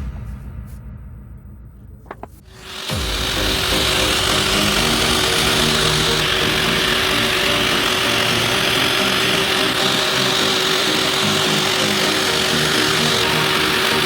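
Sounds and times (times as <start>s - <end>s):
power tool motor whining: 2.5s - 14.0s.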